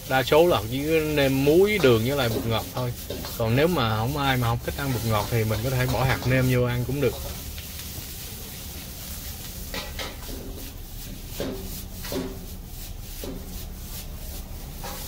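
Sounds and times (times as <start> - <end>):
spatula scraping a pan: 0.0 - 15.0.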